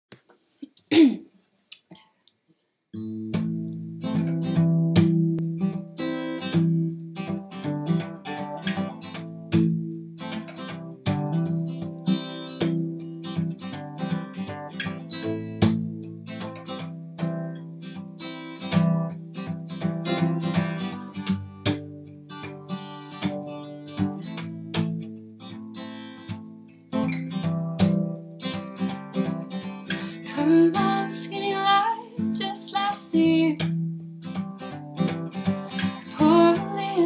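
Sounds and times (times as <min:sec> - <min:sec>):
acoustic guitar strumming: 0:03.0 - 0:37.0.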